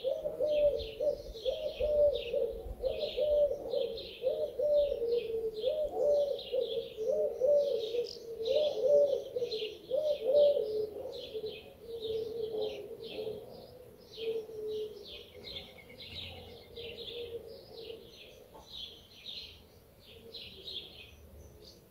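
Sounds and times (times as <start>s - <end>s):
dove cooing: 0.0s - 19.1s
small birds chirping: 0.0s - 21.9s.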